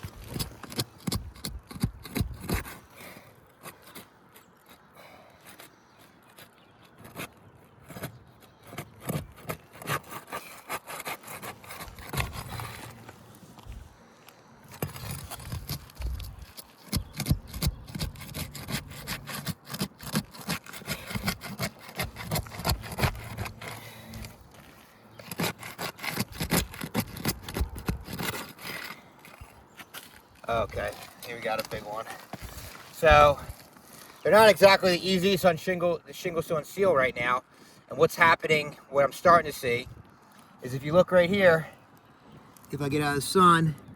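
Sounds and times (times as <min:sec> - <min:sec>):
tool scraping under roof shingles: 0:00.0 - 0:42.8.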